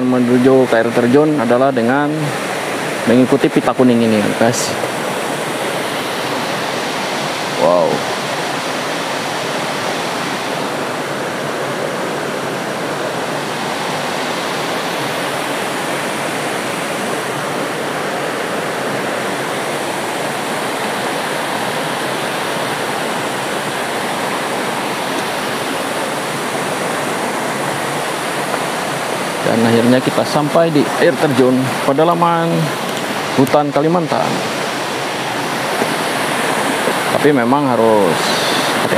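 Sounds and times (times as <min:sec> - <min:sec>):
stream rushing over boulders: 0:00.0 - 0:38.9.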